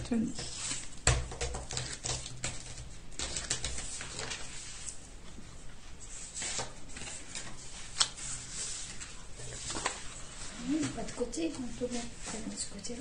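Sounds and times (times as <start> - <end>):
paper rustling: 0.4 - 13.0.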